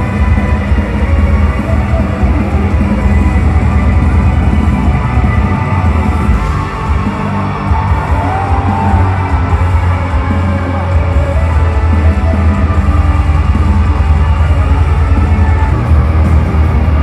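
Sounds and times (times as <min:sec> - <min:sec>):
deep bass: 0:00.0 - 0:17.0
electric guitar: 0:00.0 - 0:17.0
heavy metal music: 0:00.0 - 0:17.0.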